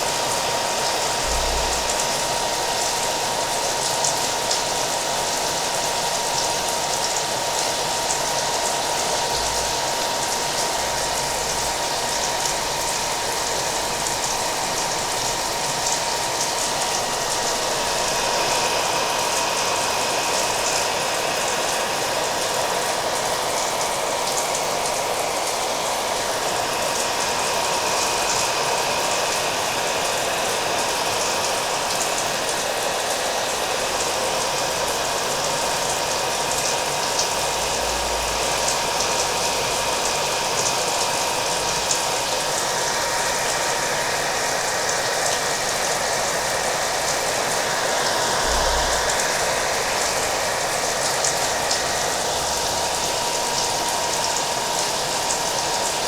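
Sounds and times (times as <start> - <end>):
hair dryer whine: 0.0 - 56.0
rain hiss and patter: 0.0 - 56.0.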